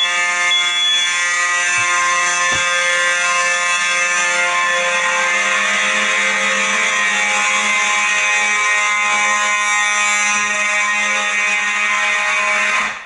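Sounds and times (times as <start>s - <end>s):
fire alarm horn buzzing: 0.0s - 13.0s.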